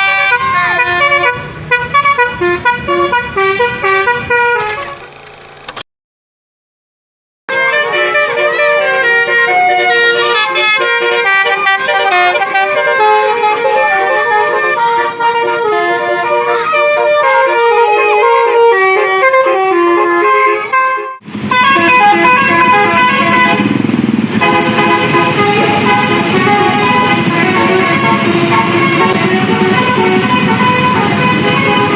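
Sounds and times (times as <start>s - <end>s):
musical air horn melody: 0.0s - 5.2s, 7.5s - 31.9s.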